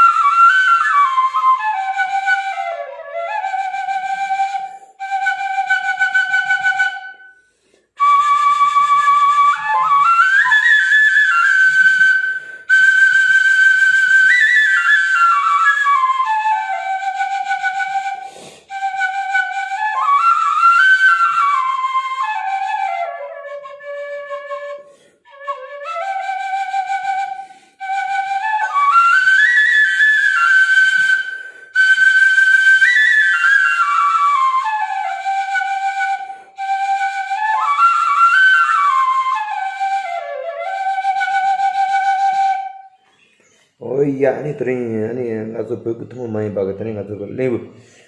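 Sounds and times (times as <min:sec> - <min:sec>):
bamboo flute melody: 0:00.0 - 0:44.8.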